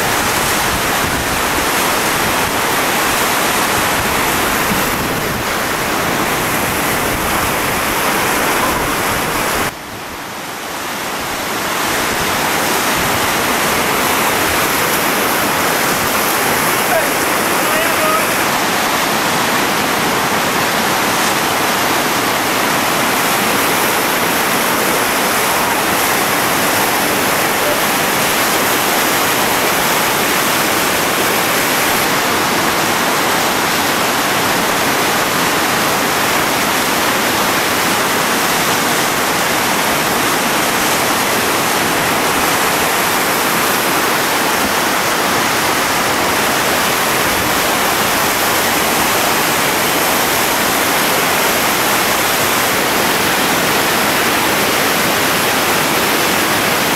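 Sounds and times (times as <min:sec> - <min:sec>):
whitewater rapids rushing: 0:00.0 - 0:56.9.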